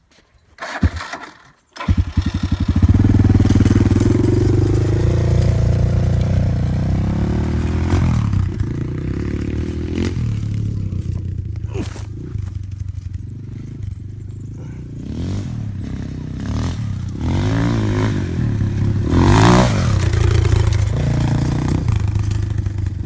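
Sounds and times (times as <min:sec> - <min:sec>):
dirt bike engine revving: 0:00.6 - 0:23.0.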